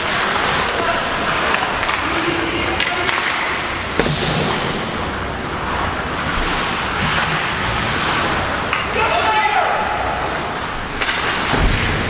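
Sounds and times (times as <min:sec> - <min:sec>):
ice hockey play: 0:00.0 - 0:12.0.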